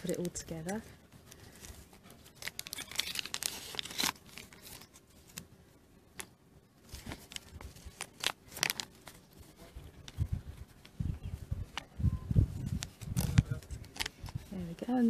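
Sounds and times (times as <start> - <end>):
paper crinkling and crackling: 0.0 - 5.5, 6.1 - 15.0.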